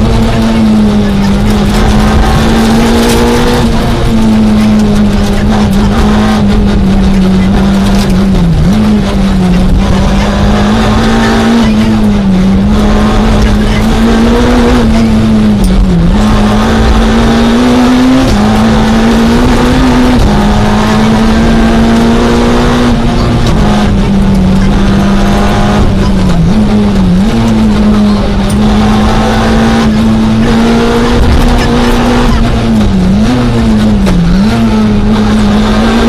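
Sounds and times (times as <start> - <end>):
car engine at high revs: 0.0 - 36.0.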